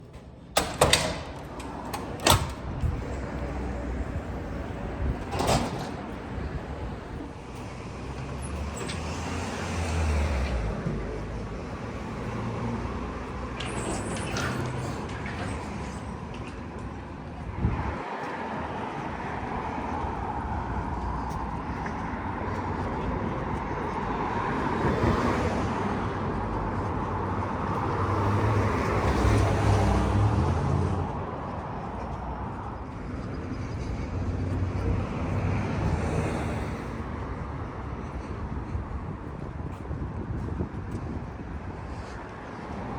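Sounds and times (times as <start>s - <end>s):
passing cars: 0.6s - 42.9s.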